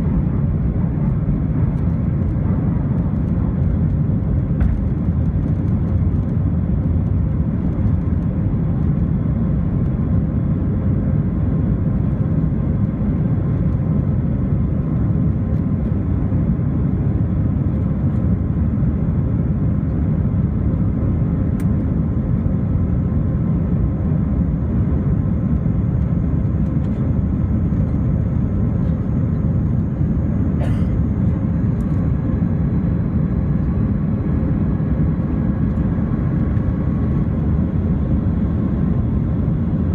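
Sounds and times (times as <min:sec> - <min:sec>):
aircraft engines rumbling: 0:00.0 - 0:39.9.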